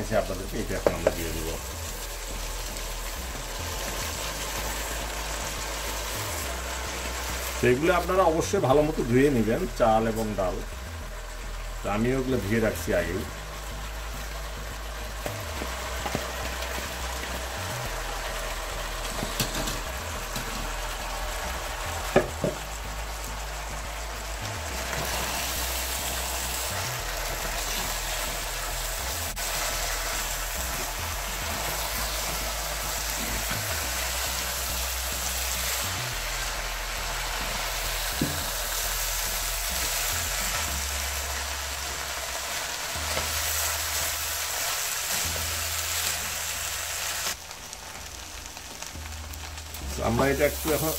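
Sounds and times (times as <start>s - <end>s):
food sizzling in oil: 0.0s - 50.9s.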